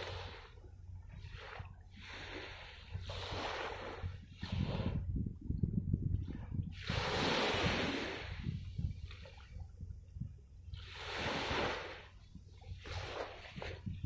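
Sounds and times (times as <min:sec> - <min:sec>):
waves splashing against shore: 0:00.0 - 0:05.1, 0:06.2 - 0:09.7, 0:10.7 - 0:14.0
wind buffeting microphone: 0:00.0 - 0:14.0.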